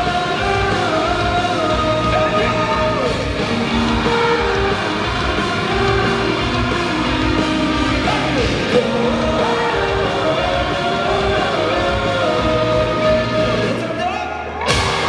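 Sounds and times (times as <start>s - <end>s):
live rock band playing: 0.0s - 13.9s, 14.5s - 15.0s
person singing: 0.0s - 14.1s.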